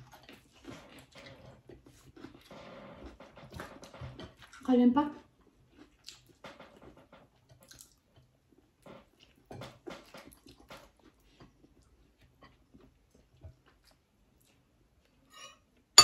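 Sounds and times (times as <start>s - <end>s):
people chewing food: 0.0s - 15.9s.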